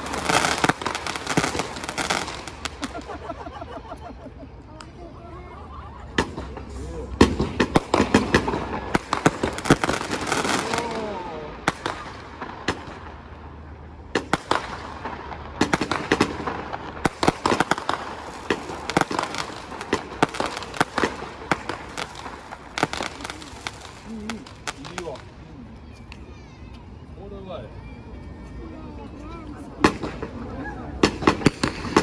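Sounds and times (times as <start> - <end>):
fireworks bangs and crackles: 0.0 - 5.0, 6.0 - 25.4, 29.5 - 32.0.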